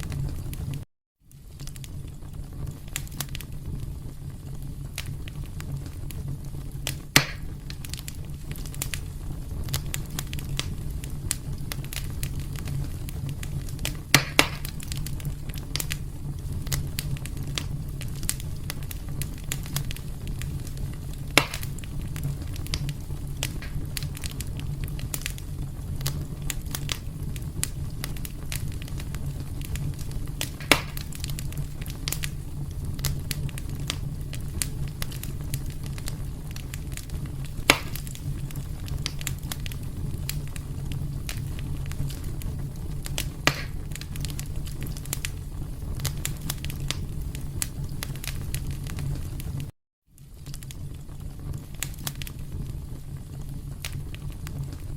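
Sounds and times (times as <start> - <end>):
fire popping: 0.0 - 54.9
wood fire crackling: 0.0 - 54.9.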